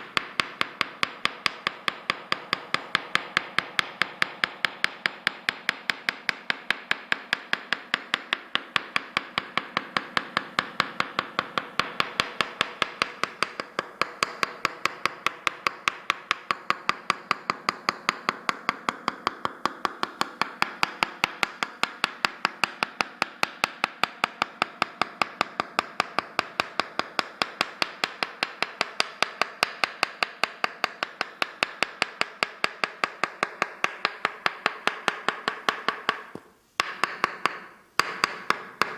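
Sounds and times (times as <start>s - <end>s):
wooden mallet tapping wooden wedge: 0.0s - 38.9s.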